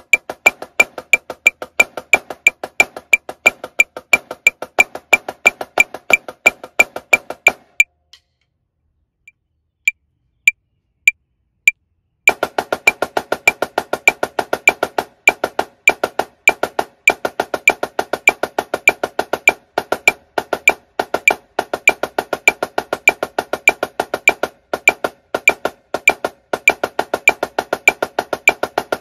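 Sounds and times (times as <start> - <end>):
snare drum played with sticks: 0.0 - 7.9, 12.3 - 29.0.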